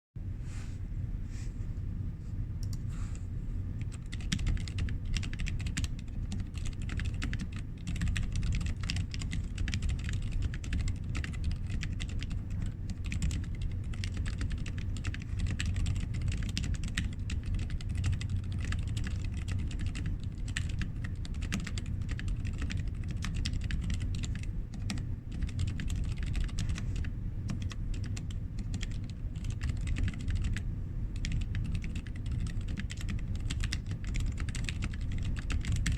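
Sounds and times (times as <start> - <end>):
fast mechanical keyboard typing: 3.8 - 30.6, 31.2 - 35.9.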